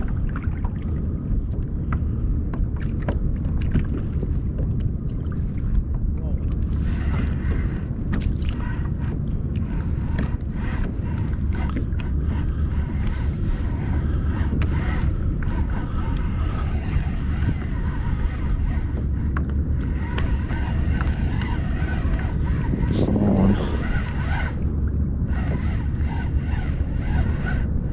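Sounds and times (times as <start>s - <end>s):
water splashing around kayak: 0.0s - 27.9s
wind buffeting microphone: 0.0s - 27.9s.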